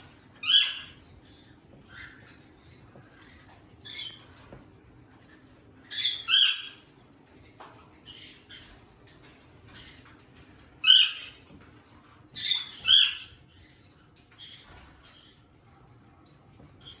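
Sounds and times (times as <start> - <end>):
parrots calling: 0.0 - 7.1, 7.7 - 17.0.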